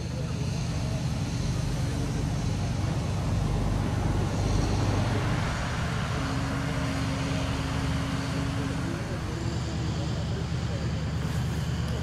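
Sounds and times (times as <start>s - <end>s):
low engine rumble: 0.0s - 12.0s
outdoor noise: 0.0s - 12.0s.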